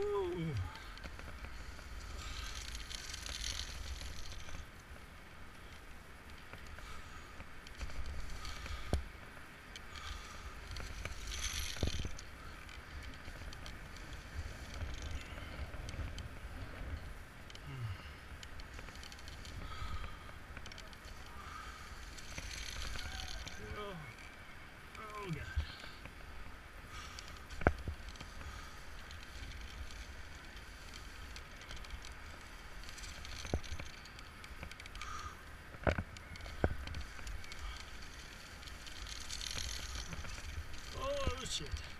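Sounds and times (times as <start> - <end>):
rope rustling: 0.0 - 41.9
wind rumbling on microphone: 0.0 - 41.9.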